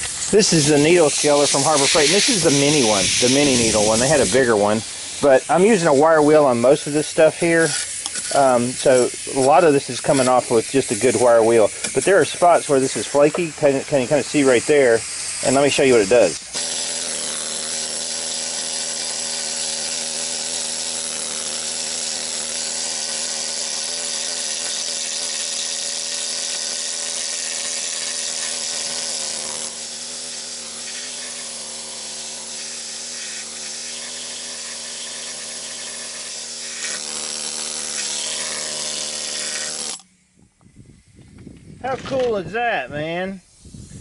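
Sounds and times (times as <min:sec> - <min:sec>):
air needle scaler hammering rust: 0:00.0 - 0:40.2.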